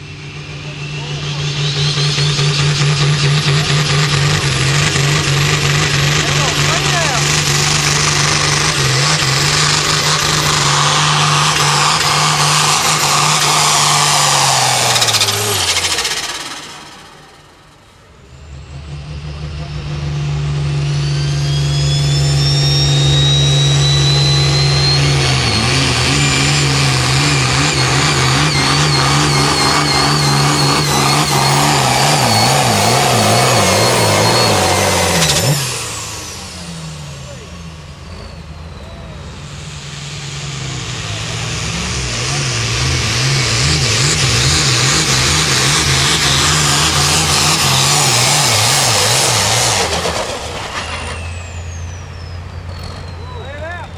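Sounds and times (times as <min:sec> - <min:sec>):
turbo whistle: 0:00.0 - 0:05.3, 0:05.9 - 0:53.9
pulling tractor diesel engine: 0:00.0 - 0:53.9.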